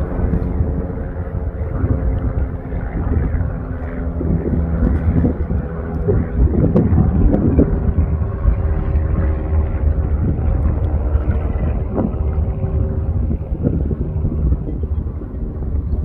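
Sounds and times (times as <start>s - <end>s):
volcano low rumble: 0.0s - 16.0s.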